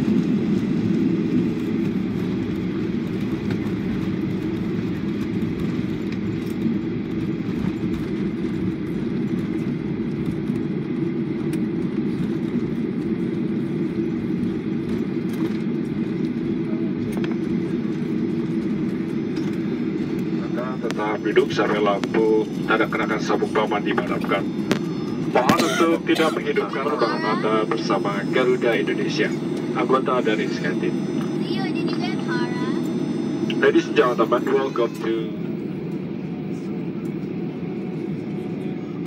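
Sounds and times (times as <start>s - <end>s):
airplane cabin rumble: 0.0s - 39.0s.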